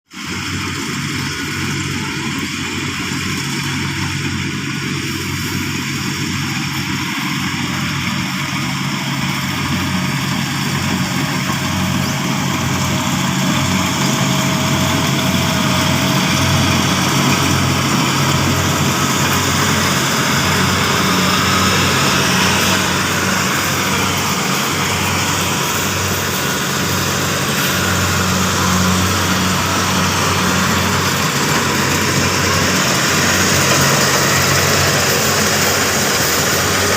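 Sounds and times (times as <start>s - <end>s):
combine harvester engine hum: 0.2s - 36.9s.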